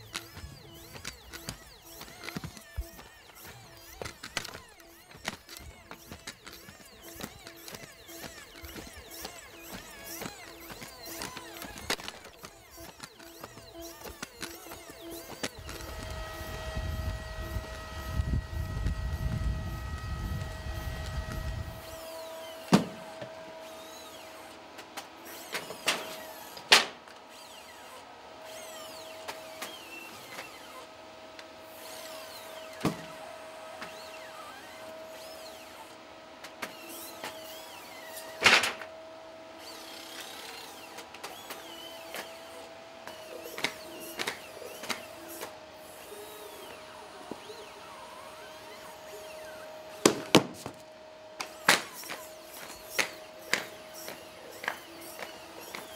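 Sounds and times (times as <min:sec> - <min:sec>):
robot hydraulic whine: 0:00.0 - 0:31.0, 0:31.6 - 0:36.0, 0:36.6 - 0:50.8, 0:51.4 - 0:55.9.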